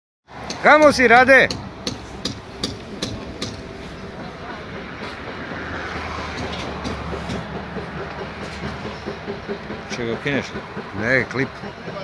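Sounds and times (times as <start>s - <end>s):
footsteps on metal decking: 1.5s - 12.0s.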